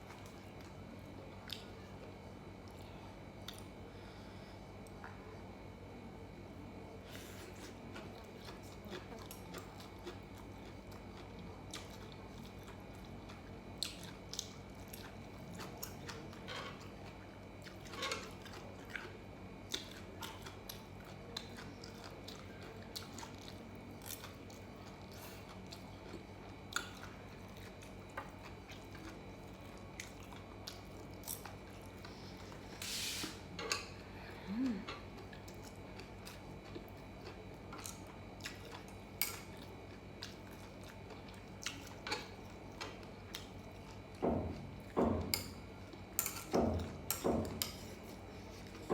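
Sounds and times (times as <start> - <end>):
faint steady hum: 0.0 - 48.9
person chewing food: 1.4 - 3.8, 7.2 - 32.8, 33.9 - 48.9.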